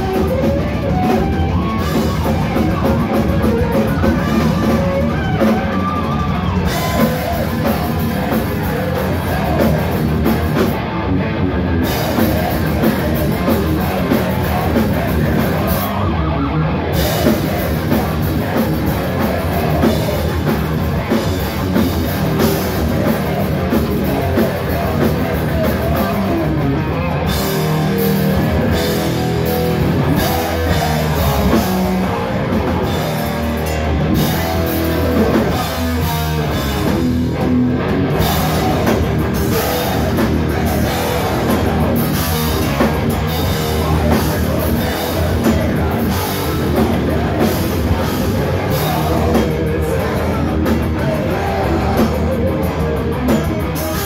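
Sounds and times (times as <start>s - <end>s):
hard-hit drum kit: 0.0s - 10.9s, 11.7s - 54.0s
distorted electric guitars: 0.0s - 54.0s
heavy metal band playing live: 0.0s - 54.0s.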